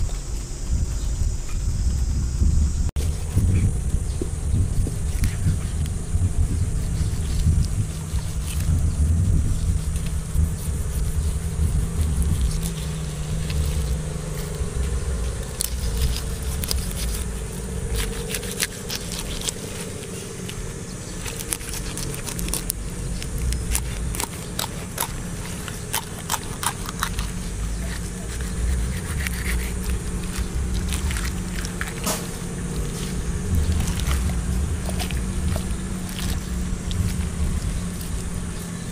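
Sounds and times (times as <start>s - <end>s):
steady low rumble: 0.0s - 38.9s.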